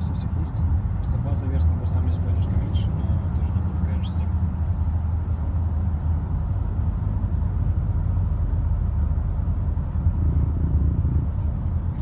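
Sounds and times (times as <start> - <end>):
road and engine noise in car cabin: 0.0 - 12.0.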